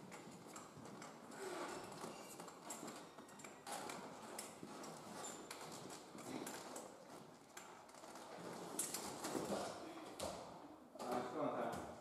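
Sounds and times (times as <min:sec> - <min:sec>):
knocks and clacks of obstacle equipment: 0:00.0 - 0:12.0.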